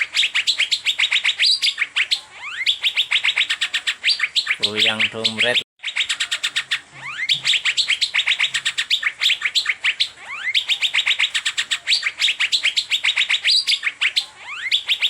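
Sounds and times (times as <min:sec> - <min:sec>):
bird whistling and chirping: 0:00.0 - 0:15.0.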